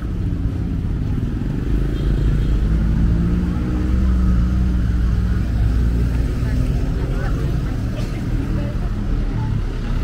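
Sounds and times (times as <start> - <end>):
motorbike and car engines: 0.0 - 10.0.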